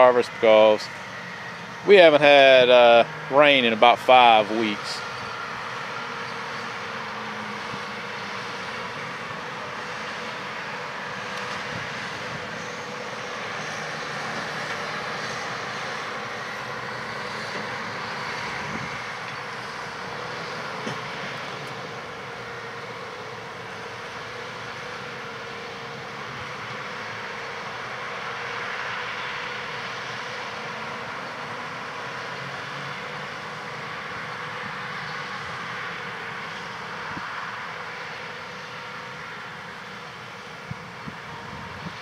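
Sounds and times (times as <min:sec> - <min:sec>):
tractor and combine running: 0:00.0 - 0:42.0.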